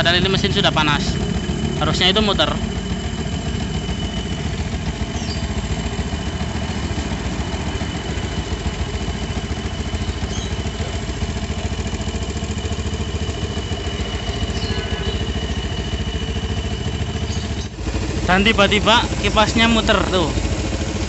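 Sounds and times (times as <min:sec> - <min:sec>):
high-pitched engine whine: 0:00.0 - 0:21.0
motorcycle engine idling: 0:00.0 - 0:21.0.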